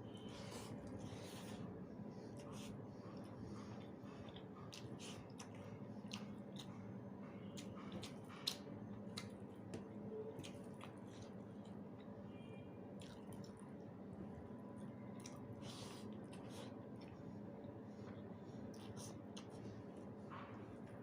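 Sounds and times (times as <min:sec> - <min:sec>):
wet chewing: 0:00.2 - 0:12.2, 0:12.9 - 0:21.0.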